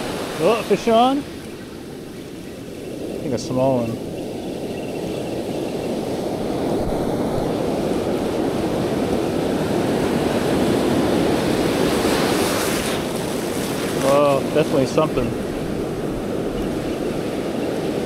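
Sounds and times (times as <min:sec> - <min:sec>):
ocean waves on beach: 0:00.0 - 0:18.0.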